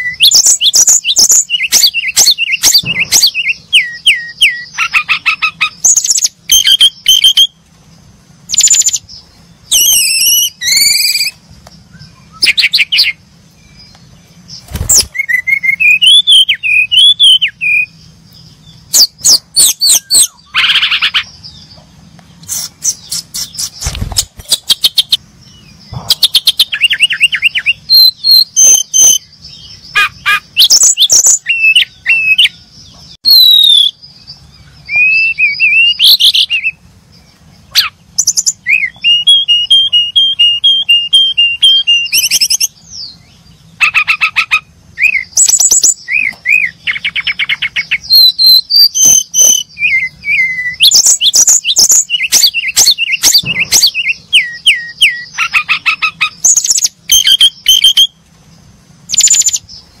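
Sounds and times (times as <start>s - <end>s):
bird singing whistled song: 0.0s - 7.6s, 8.5s - 58.2s, 59.1s - 60.0s.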